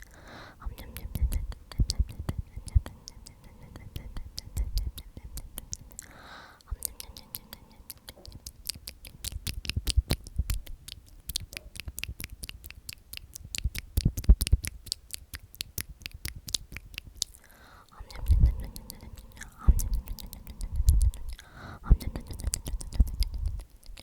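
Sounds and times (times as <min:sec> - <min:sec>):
soft whispering: 0:00.0 - 0:24.0.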